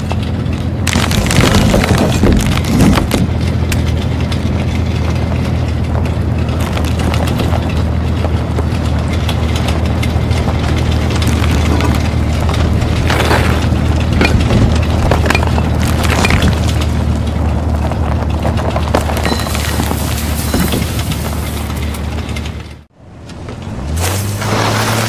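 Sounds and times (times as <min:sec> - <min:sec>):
crunching and clattering knocks: 0:00.0 - 0:25.0
large vehicle engine rumbling: 0:00.0 - 0:25.0.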